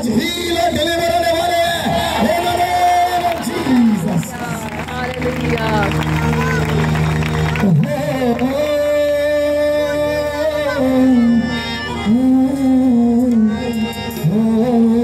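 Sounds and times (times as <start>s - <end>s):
steady musical accompaniment: 0.0s - 15.0s.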